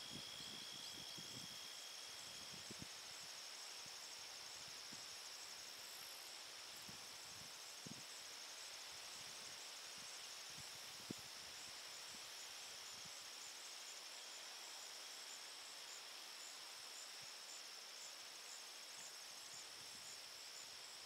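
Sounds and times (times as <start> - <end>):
high-pitched insect chorus trill: 0.0 - 21.0.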